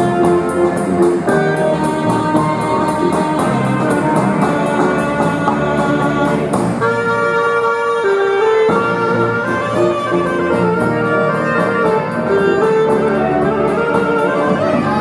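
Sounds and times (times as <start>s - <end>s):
alto saxophone: 0.0s - 15.0s
bass guitar: 0.0s - 15.0s
clarinet: 0.0s - 15.0s
drum kit cymbal beat: 0.0s - 15.0s.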